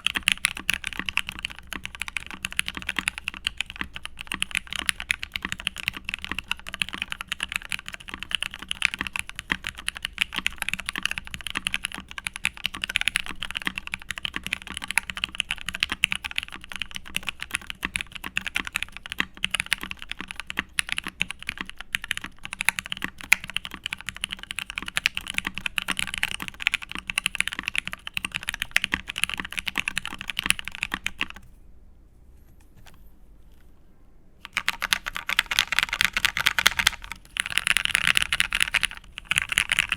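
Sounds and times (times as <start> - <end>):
fast typing on mechanical keyboard: 0.0 - 31.4, 34.4 - 39.9.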